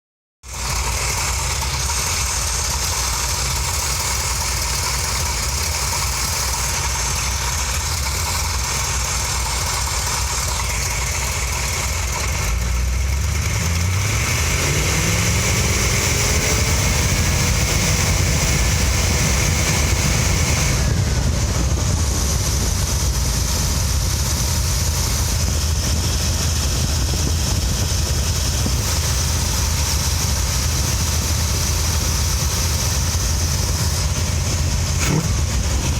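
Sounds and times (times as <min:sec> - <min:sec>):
car engine idling: 0:00.4 - 0:35.9
engine whine rising in pitch: 0:00.4 - 0:35.9.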